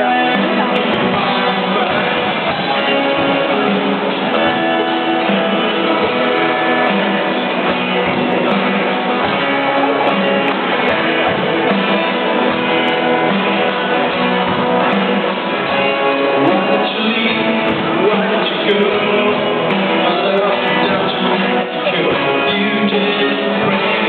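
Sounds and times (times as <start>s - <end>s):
electric guitars: 0.0s - 24.0s
rock band playing: 0.0s - 24.0s.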